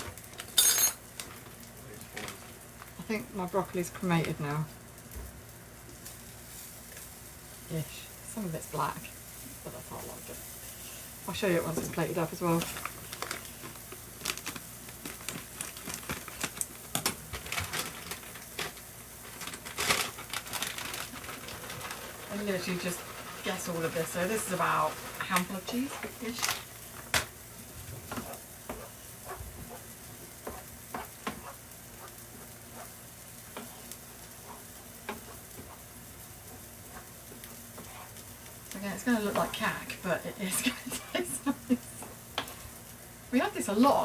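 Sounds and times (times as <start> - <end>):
beans sizzling in a pan: 0.0 - 44.0.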